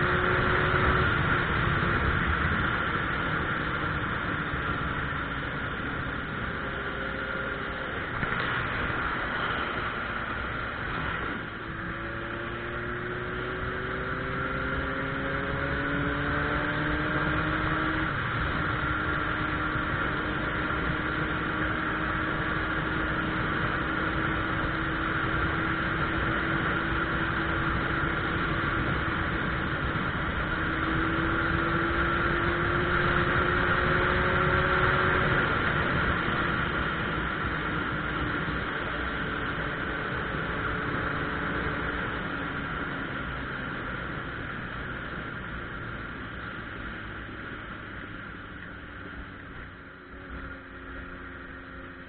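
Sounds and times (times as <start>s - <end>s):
motorcycle engine accelerating: 0.0s - 52.0s
steady rushing noise: 0.0s - 52.0s.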